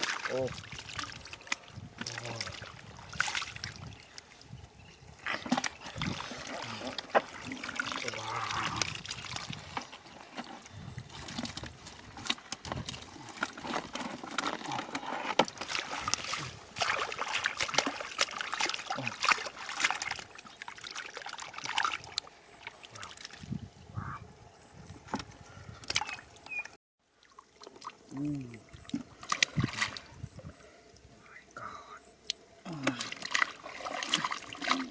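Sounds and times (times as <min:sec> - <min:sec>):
shallow water splashing: 0:00.0 - 0:23.5, 0:25.9 - 0:31.2, 0:32.4 - 0:34.9.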